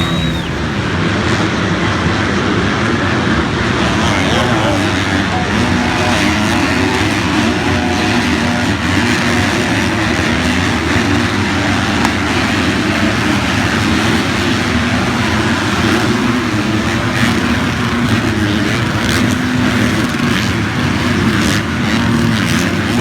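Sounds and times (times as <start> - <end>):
constant rushing noise: 0.0 - 23.0
motorcycle engines revving: 0.0 - 23.0.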